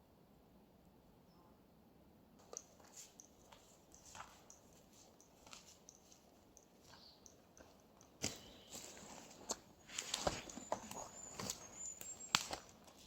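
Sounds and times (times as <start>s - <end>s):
faint clicks and ticks: 2.4s - 13.0s.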